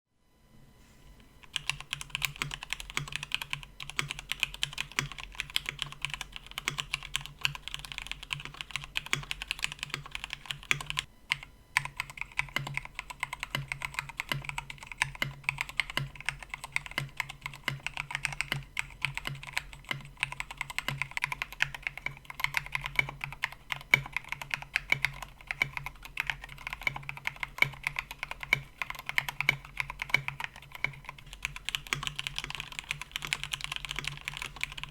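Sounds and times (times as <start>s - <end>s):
fast mechanical keyboard typing: 1.4s - 34.9s.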